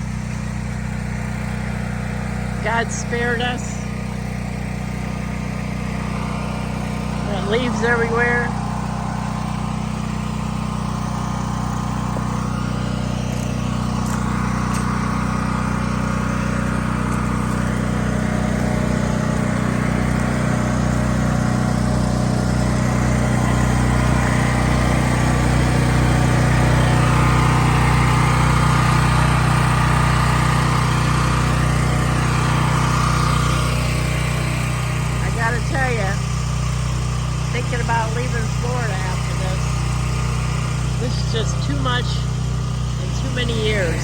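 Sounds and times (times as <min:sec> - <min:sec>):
small engine running steadily: 0:00.0 - 0:44.0.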